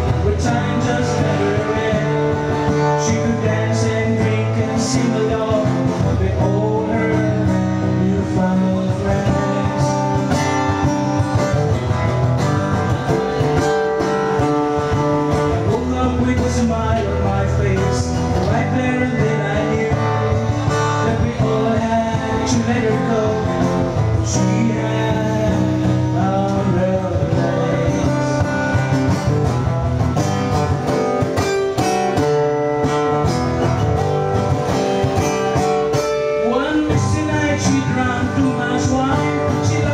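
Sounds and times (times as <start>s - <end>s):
acoustic guitar playing folk ballad: 0.0s - 39.9s
low bass notes: 0.0s - 39.9s.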